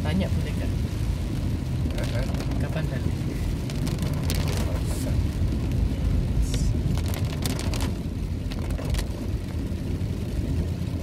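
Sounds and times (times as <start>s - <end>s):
car engine and tyres on wet road: 0.0s - 11.0s
raindrops ticking on car: 0.0s - 11.0s.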